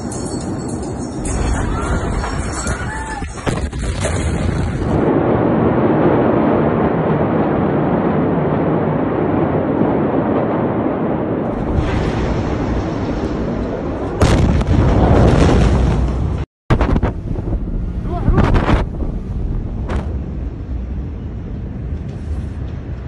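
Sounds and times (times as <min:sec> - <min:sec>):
explosion rumbling: 0:01.2 - 0:23.0.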